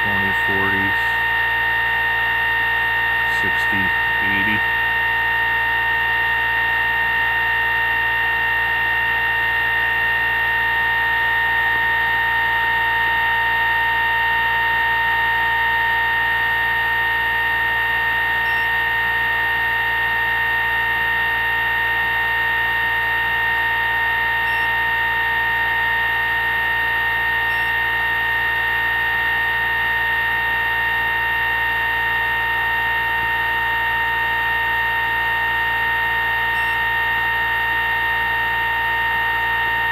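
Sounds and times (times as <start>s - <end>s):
electric motor high-pitched whine: 0.0s - 39.9s.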